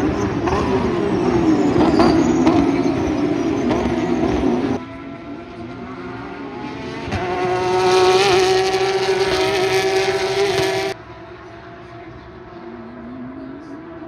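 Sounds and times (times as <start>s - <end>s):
race car engine at high revs: 0.0s - 14.0s.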